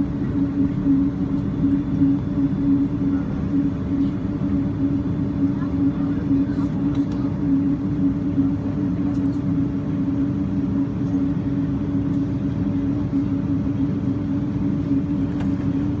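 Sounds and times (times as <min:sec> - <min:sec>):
aircraft cabin rumble: 0:00.0 - 0:16.0
engine hum: 0:00.0 - 0:16.0.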